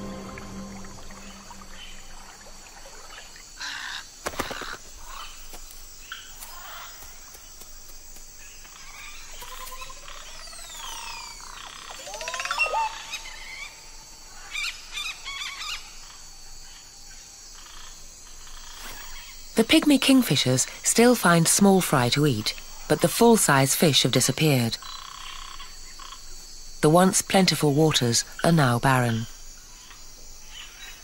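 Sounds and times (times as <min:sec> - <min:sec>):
high insect drone: 0:00.0 - 0:31.0.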